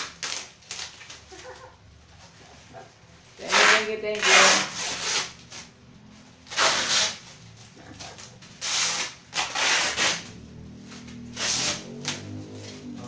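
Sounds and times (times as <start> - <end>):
plastic wrapping rustling and crinkling: 0.0 - 13.0.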